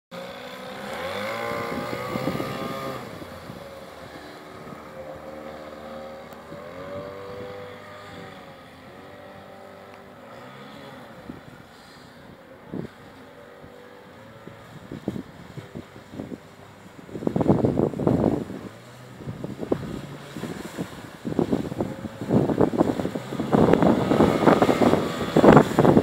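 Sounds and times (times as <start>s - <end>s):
outboard motor running: 0.1s - 26.0s.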